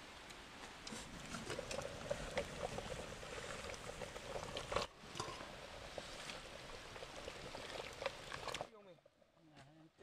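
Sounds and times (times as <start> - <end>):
fire popping: 0.2 - 9.2
pot of liquid bubbling: 0.2 - 10.0.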